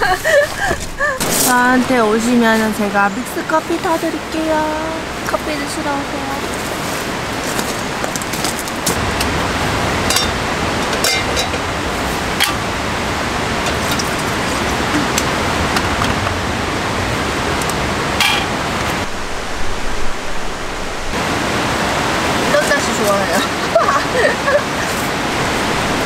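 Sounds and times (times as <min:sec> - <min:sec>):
light rain: 0:00.0 - 0:26.0
stream rushing: 0:00.0 - 0:26.0.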